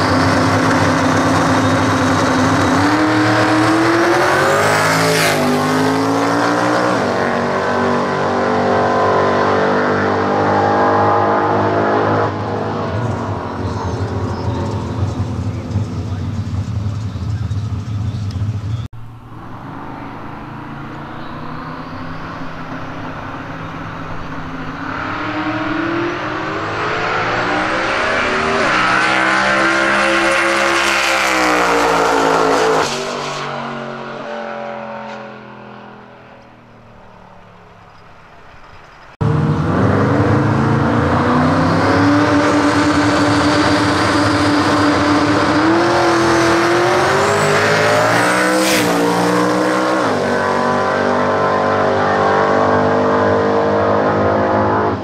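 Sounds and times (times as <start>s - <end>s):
drag car engine at full throttle: 0.0s - 55.0s.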